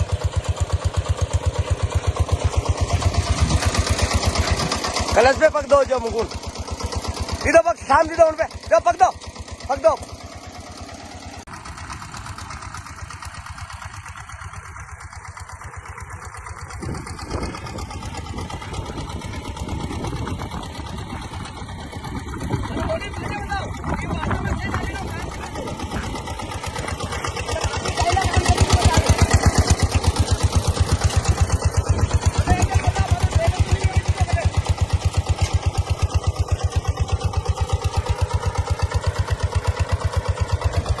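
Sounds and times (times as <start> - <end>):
tractor engine clattering: 0.0 - 41.0.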